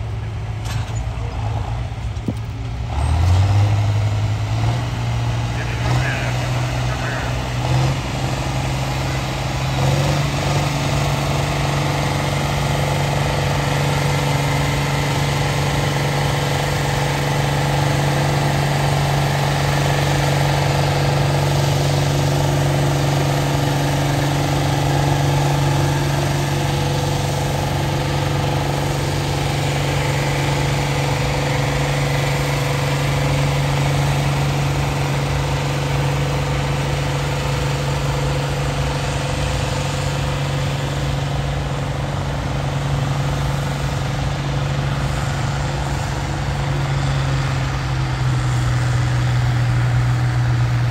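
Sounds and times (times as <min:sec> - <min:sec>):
tractor engine under heavy load: 0:00.0 - 0:50.9.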